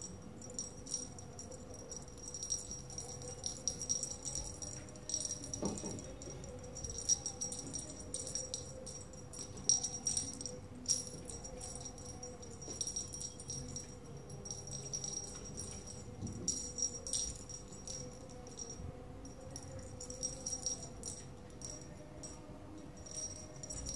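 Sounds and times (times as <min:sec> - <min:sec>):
small bell jingling: 0:00.0 - 0:23.9.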